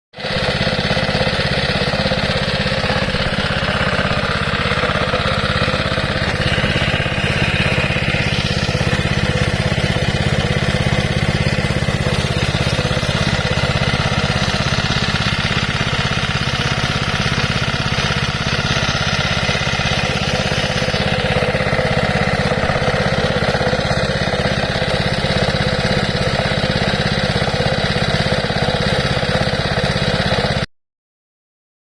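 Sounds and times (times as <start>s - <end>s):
air compressor engine running: 0.2s - 30.7s.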